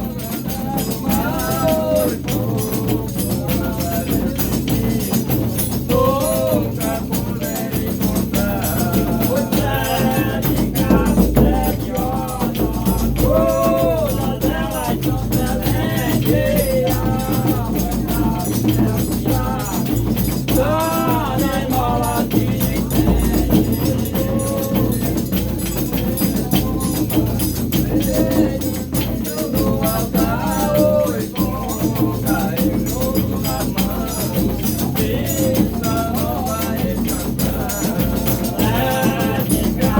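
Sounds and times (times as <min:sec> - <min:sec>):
low drum: 0:00.0 - 0:39.9
rattling shaker percussion: 0:00.0 - 0:39.9
voices singing: 0:00.0 - 0:39.9.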